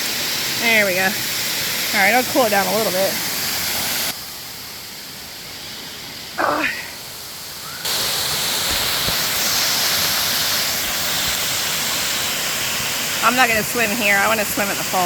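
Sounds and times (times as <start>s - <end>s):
water rushing over dam: 0.0s - 4.2s, 6.2s - 15.0s.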